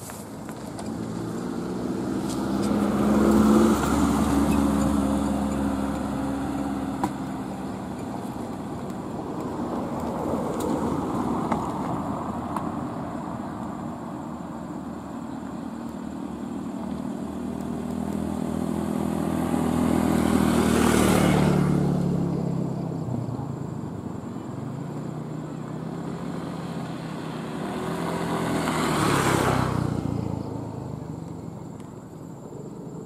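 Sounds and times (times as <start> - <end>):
motor vehicles passing by: 0.0 - 33.0.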